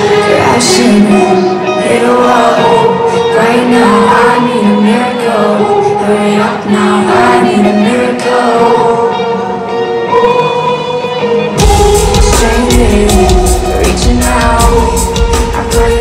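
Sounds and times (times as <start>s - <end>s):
choir-like vocal chords: 0.0s - 16.0s.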